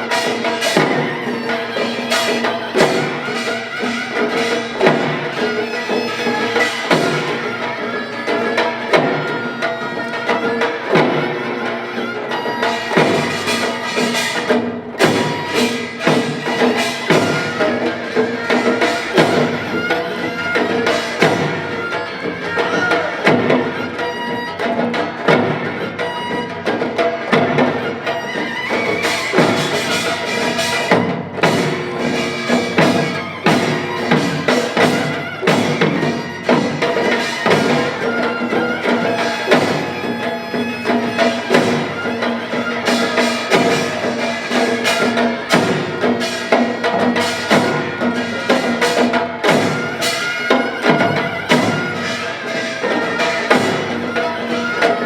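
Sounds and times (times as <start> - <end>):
percussion band playing rhythm: 0.0 - 55.0.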